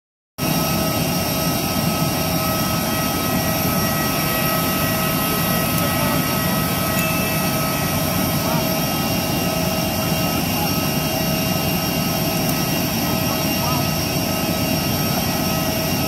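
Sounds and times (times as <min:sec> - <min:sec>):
jet turbine whining: 0:00.4 - 0:16.0.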